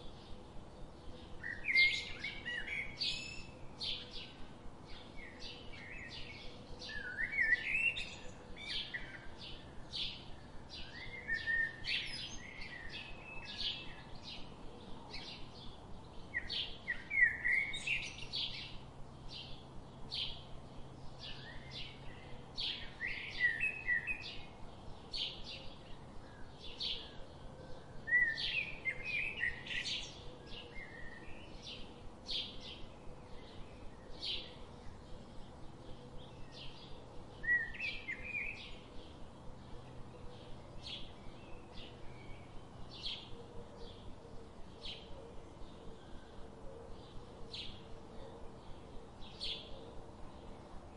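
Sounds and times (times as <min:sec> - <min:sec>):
birds warbling song: 0:00.0 - 0:50.9.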